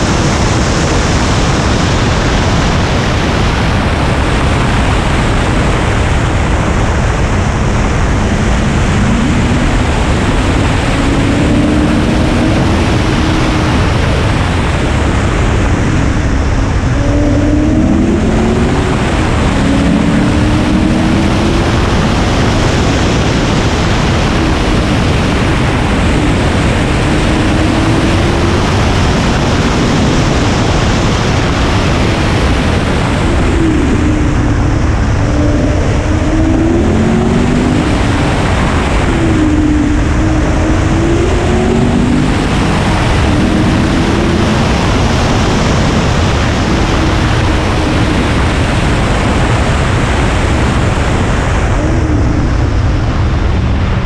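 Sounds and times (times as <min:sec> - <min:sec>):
car engine accelerating: 0:00.0 - 0:54.0
wind rush on microphone: 0:00.0 - 0:54.0.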